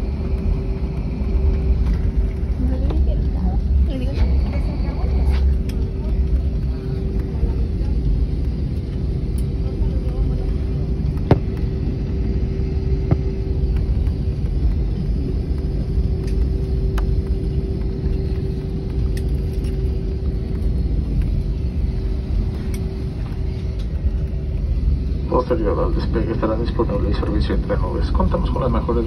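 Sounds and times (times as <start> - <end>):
cabin low rumble: 0.0 - 29.0
mid-pitched hum: 0.0 - 29.0.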